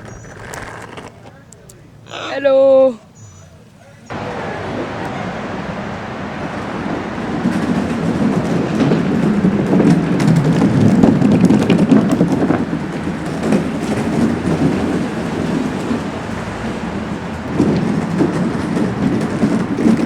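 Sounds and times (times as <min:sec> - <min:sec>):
skateboard wheels rolling: 0:00.0 - 0:02.3, 0:04.1 - 0:20.0.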